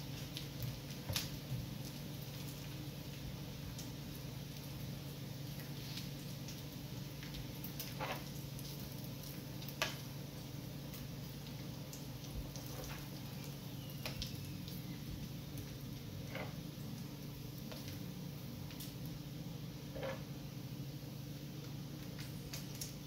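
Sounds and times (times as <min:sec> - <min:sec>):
bacon crackling and popping: 0:00.0 - 0:23.0.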